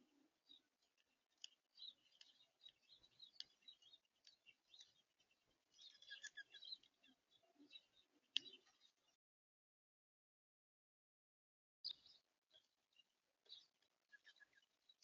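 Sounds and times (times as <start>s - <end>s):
small birds chirping: 0.0s - 9.2s, 11.8s - 15.0s.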